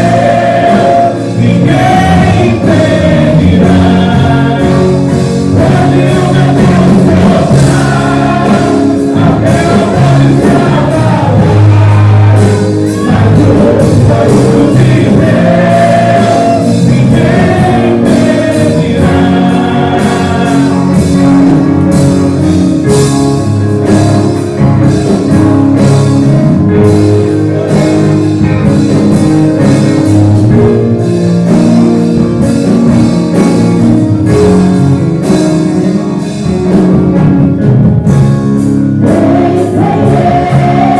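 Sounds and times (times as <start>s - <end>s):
worship singing with instruments: 0.0s - 37.6s, 38.6s - 40.9s.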